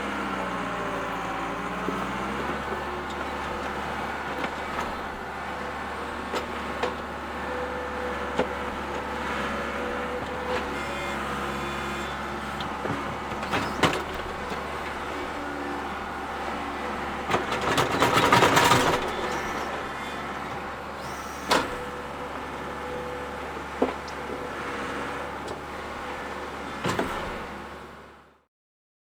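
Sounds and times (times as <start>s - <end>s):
skid-steer loader running: 0.0s - 28.4s.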